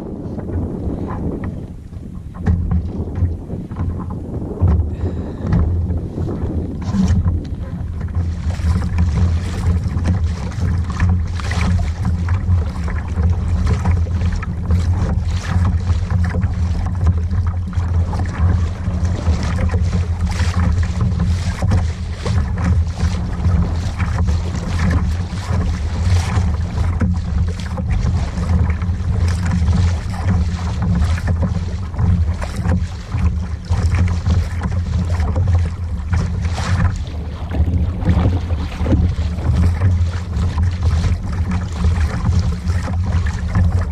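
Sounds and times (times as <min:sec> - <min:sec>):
strong wind buffeting microphone: 0:00.0 - 0:43.9.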